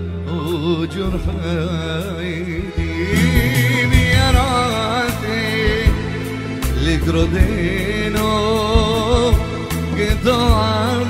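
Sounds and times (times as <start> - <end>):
ornamented melody with vibrato: 0.0 - 11.0
steady low bass: 0.0 - 11.0.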